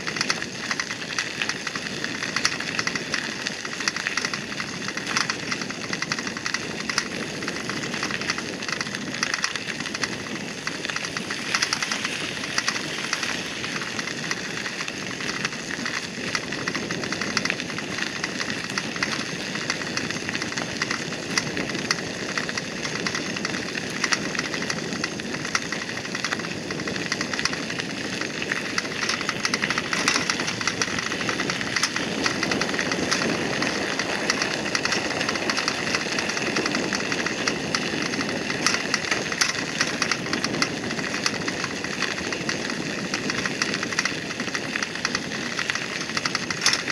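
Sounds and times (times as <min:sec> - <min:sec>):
bicycle tyres crunching on gravel: 0:00.0 - 0:46.9.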